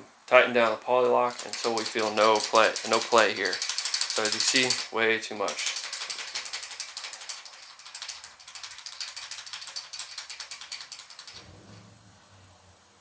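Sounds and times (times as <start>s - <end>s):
rapid metallic clicking: 0.6s - 11.5s.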